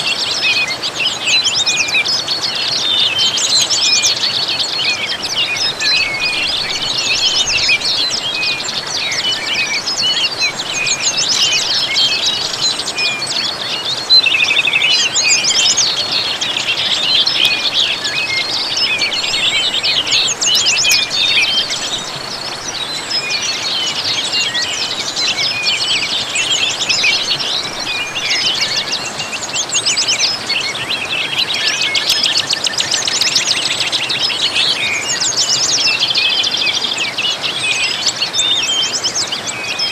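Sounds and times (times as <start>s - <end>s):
rush like falling water: 0.0s - 39.9s
small birds chirping and trilling: 0.0s - 39.9s.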